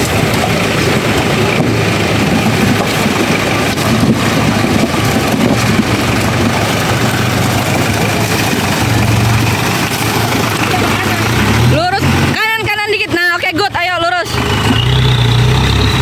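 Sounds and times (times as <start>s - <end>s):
car engine running: 0.0s - 16.0s
road and wind noise: 0.0s - 16.0s.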